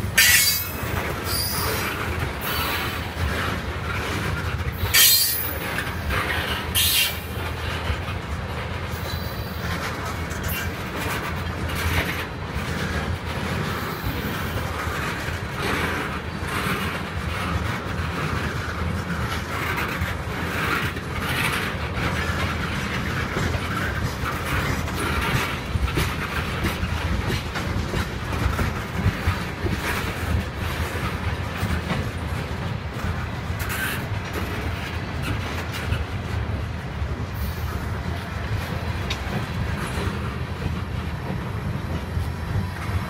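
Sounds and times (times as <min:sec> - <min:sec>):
freight train rolling past: 0:00.0 - 0:43.0
wheels clacking over rail joints: 0:00.0 - 0:43.0.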